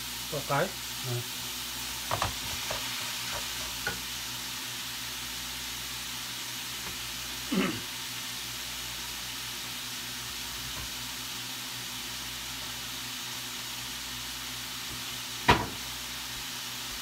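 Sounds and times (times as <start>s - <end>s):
gas burner hissing: 0.0s - 17.0s.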